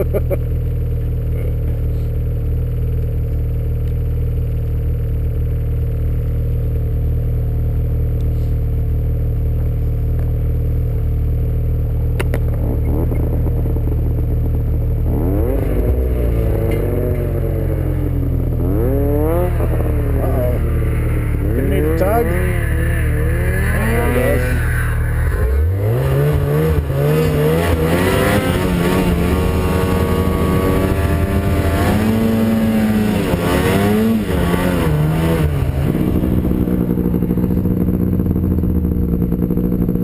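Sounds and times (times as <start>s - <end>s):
snowmobile engine idling and revving: 0.0s - 40.0s.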